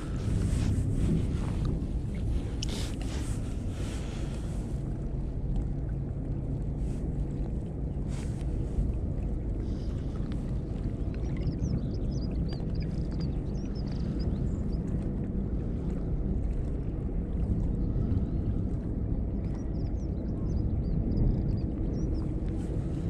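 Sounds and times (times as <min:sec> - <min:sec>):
choppy water: 0:00.0 - 0:23.0
wind buffeting microphone: 0:00.0 - 0:23.0.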